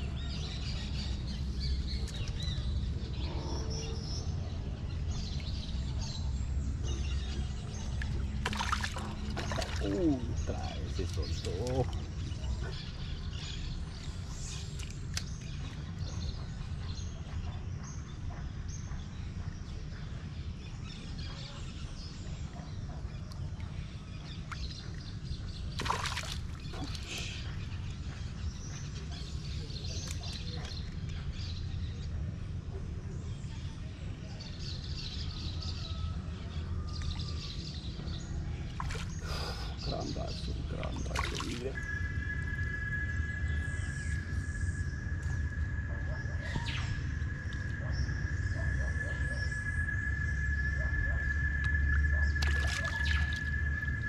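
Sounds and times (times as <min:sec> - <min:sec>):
birds calling: 0:00.0 - 0:33.6, 0:34.4 - 0:54.0
steady low rumble: 0:00.0 - 0:54.0.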